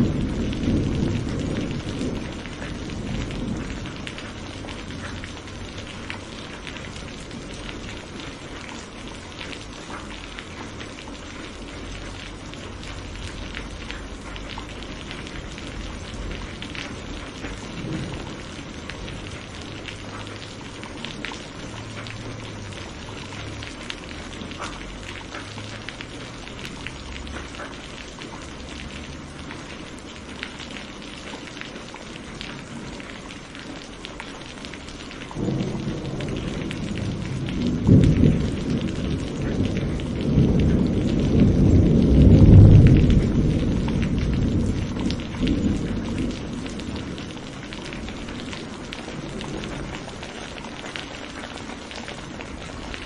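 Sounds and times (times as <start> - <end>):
low roll of thunder: 0.0 - 9.2, 10.7 - 26.1, 34.9 - 53.0
steady rain falling: 0.0 - 53.0.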